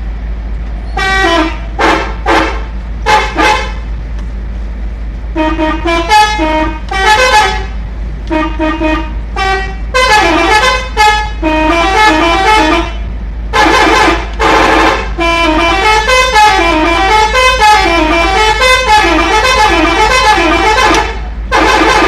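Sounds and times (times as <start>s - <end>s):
musical air horn warbling melody: 0.9s - 3.8s, 5.4s - 13.0s, 13.6s - 22.0s.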